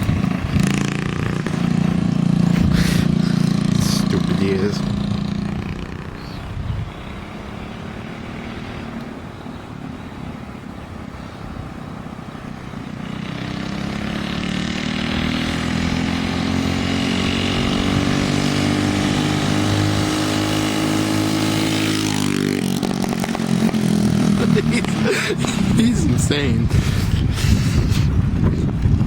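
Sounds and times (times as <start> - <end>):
small engine accelerating: 0.0 - 9.1, 12.8 - 27.2.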